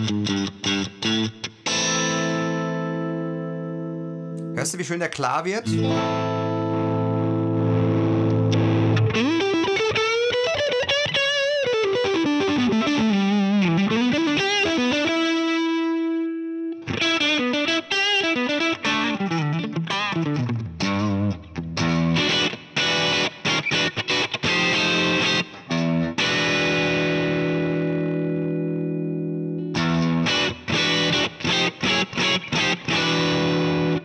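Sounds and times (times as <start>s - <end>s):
overdriven electric guitar: 0.0s - 4.6s, 5.6s - 34.0s.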